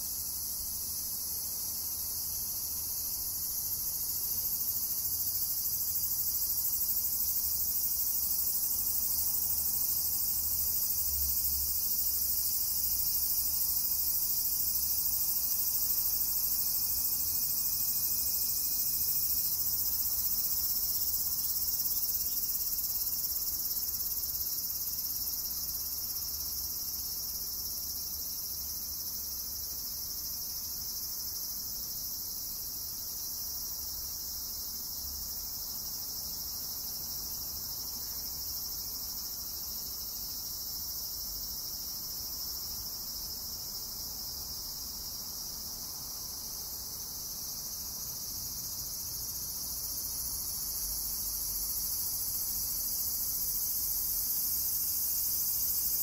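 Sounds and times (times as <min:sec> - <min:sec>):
cicadas singing: 0:00.0 - 0:56.0.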